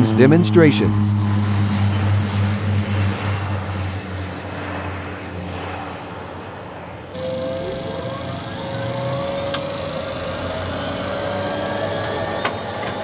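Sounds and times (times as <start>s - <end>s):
steady engine hum: 0.0s - 13.0s
turboprop engine drone: 0.0s - 13.0s.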